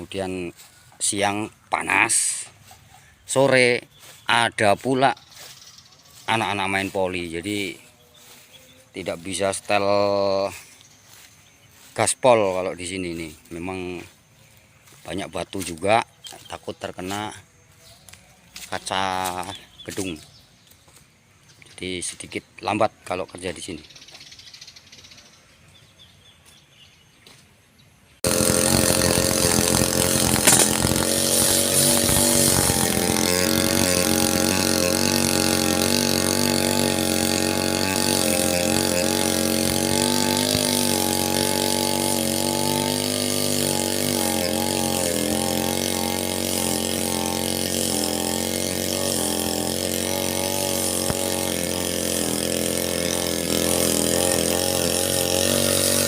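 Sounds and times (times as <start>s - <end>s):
brush cutter cutting grass: 0.0s - 23.8s, 28.2s - 56.0s.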